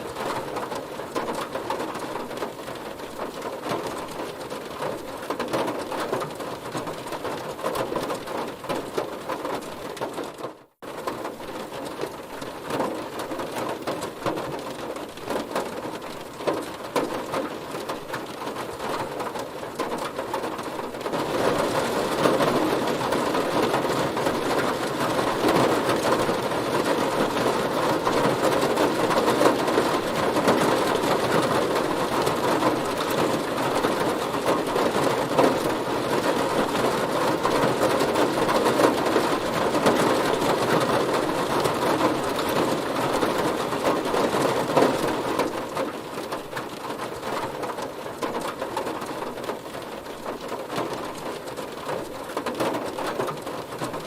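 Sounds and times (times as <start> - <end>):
heavy rain on a car: 0.0 - 54.0.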